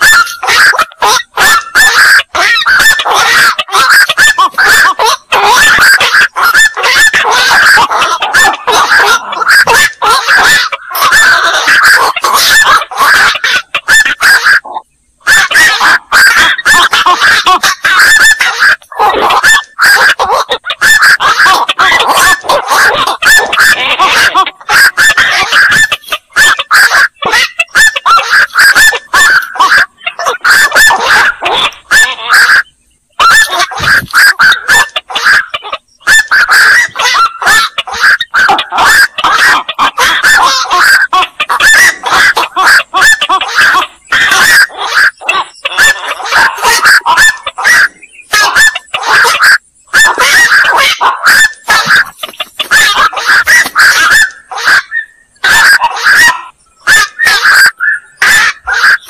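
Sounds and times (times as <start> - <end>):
night herons calling: 0.0 - 59.0.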